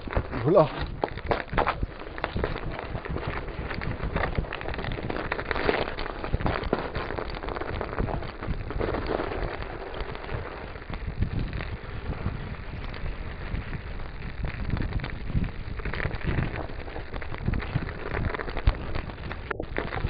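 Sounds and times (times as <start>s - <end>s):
bike rattling: 0.0s - 20.0s
bike tyres crunching snow: 0.0s - 20.0s.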